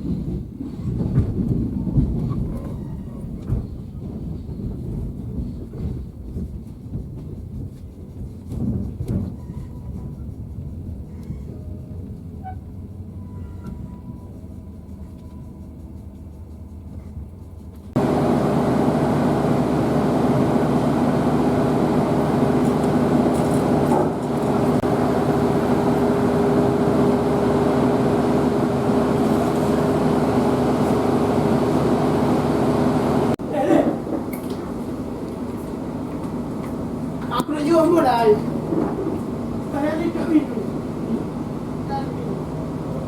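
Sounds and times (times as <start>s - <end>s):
train running on rails: 0.0s - 43.0s.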